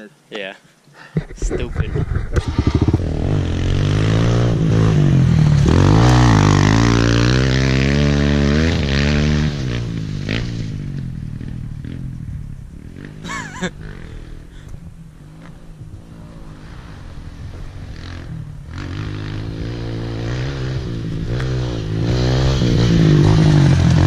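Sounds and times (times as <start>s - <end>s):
motorcycle engine revving: 1.8s - 24.0s.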